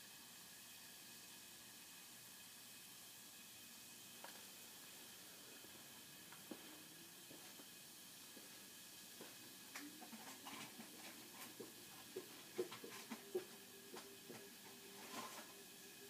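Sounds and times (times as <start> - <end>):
faint steady tone: 0.0 - 16.0.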